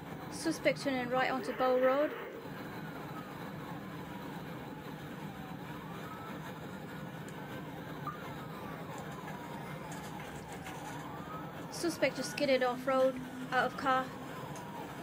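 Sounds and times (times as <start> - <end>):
engine and road rumble: 0.0 - 15.0
police siren wailing: 0.1 - 15.0.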